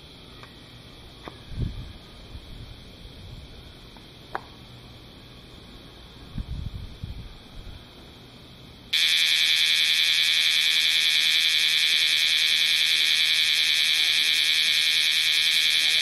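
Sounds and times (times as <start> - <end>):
cicada pulsing buzz: 0.0 - 16.0.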